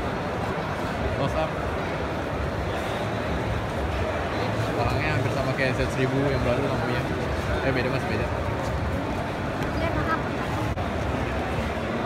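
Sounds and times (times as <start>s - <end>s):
exhibition hall background noise: 0.0s - 12.0s.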